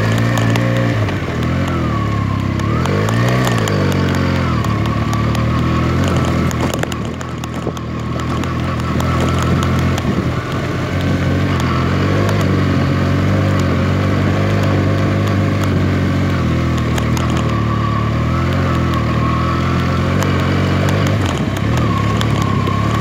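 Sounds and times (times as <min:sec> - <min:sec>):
motorcycle engine running: 0:00.0 - 0:23.0
scattered clicks: 0:00.0 - 0:23.0.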